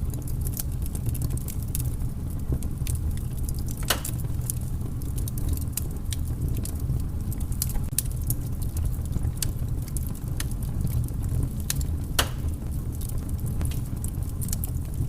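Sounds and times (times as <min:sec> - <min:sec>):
campfire crackling pops: 0:00.0 - 0:15.0
low fire rumble: 0:00.0 - 0:15.0.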